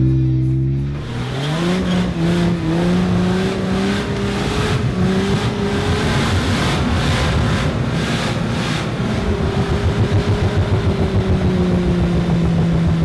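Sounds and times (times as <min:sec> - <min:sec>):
engine revving under load: 0:00.0 - 0:13.0
loud rough rushing noise: 0:00.8 - 0:13.0.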